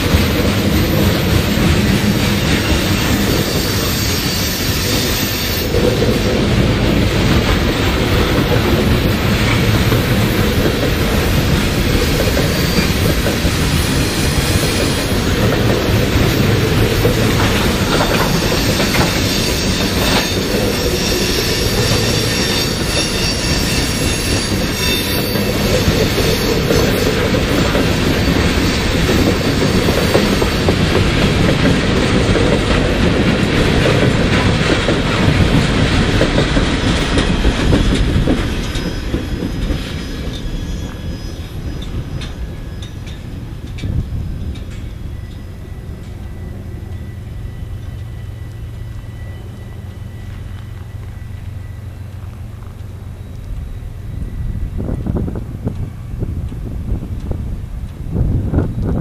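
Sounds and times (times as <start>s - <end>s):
high wheel squeal: 0.0s - 6.5s, 7.3s - 30.9s, 34.1s - 55.6s
freight train rolling past: 0.0s - 59.0s
steel wheels clattering on rails: 0.0s - 59.0s.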